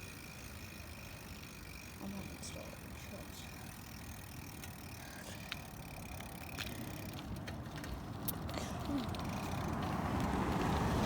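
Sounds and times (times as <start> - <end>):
bicycle riding rumble: 0.0 - 11.0.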